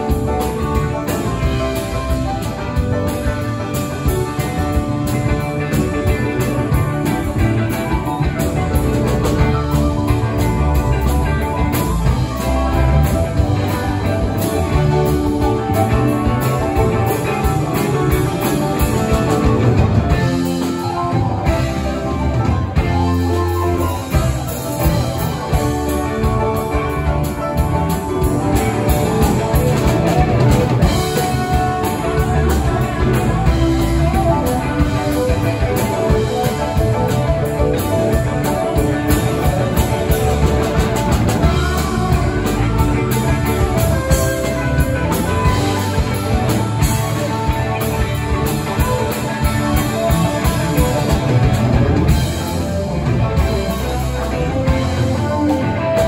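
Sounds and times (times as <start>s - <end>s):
bass guitar: 0.0s - 56.0s
drum kit: 0.0s - 56.0s
electric guitars: 0.0s - 56.0s
keyboard: 0.0s - 56.0s.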